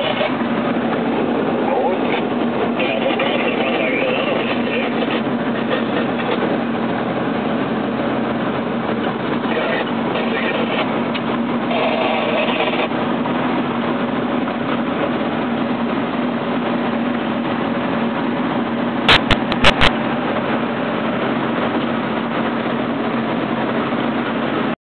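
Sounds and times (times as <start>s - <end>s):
truck diesel engine running: 0.0s - 24.8s
tyre and road noise: 0.0s - 24.8s.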